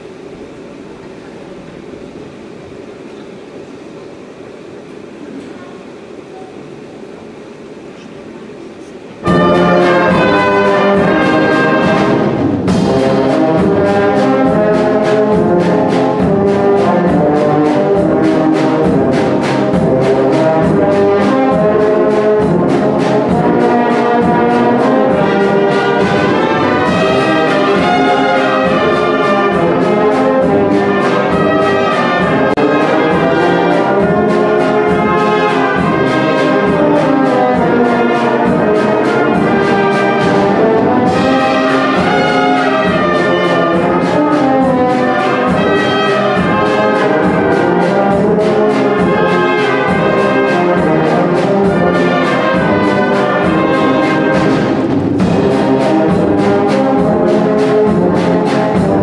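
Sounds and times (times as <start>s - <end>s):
brass band playing a hymn: 9.2s - 59.0s
drums keeping steady beat: 9.2s - 59.0s.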